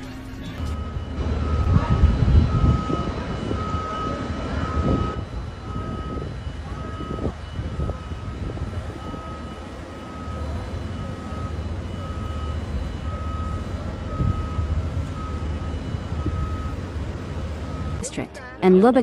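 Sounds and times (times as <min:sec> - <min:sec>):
low vehicle rumble: 0:00.0 - 0:18.1
high electronic beep: 0:00.0 - 0:18.3.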